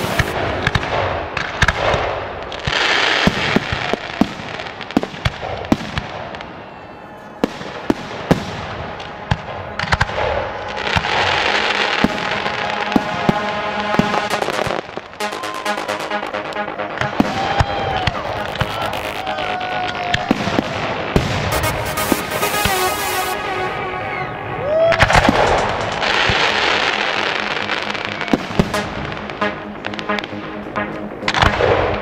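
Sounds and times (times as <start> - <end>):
firework crackling: 0.0 - 6.6, 7.4 - 30.4
firework bangs: 0.0 - 6.8, 7.4 - 23.8, 24.8 - 30.4.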